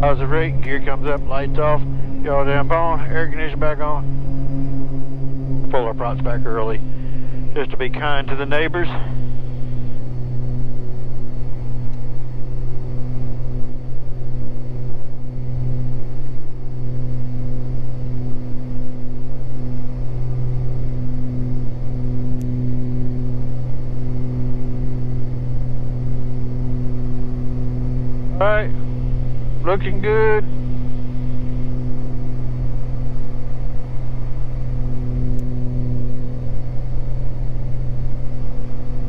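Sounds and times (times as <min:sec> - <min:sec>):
propeller plane engines droning: 0:00.0 - 0:39.0.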